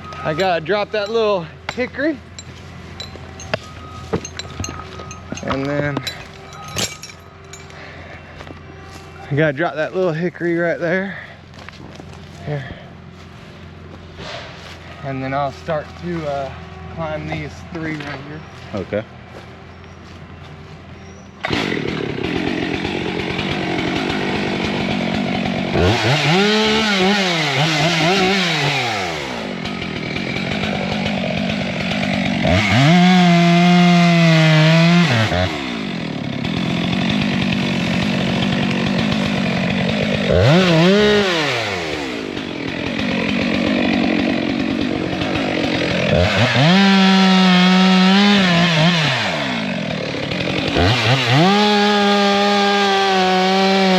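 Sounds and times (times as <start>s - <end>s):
chainsaw revving and idling: 0.0s - 53.9s.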